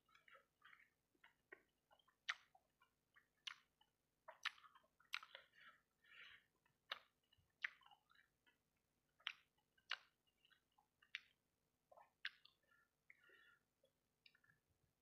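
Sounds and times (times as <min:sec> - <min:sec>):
wet mouth sounds: 0:00.0 - 0:08.6, 0:09.2 - 0:13.5
person chewing crisp food: 0:00.0 - 0:14.6.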